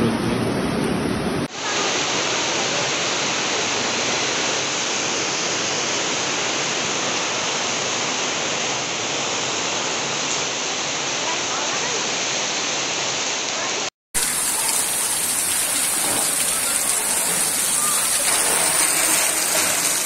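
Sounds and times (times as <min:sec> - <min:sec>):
floodwater rushing roar: 0:00.0 - 0:20.0.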